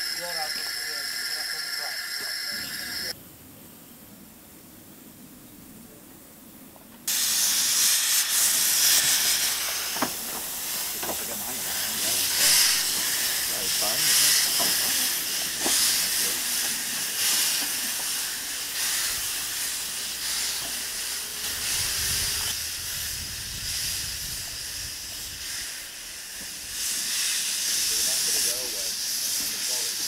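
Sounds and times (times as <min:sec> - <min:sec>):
steam hissing from locomotive: 0:00.0 - 0:03.2, 0:07.0 - 0:30.0.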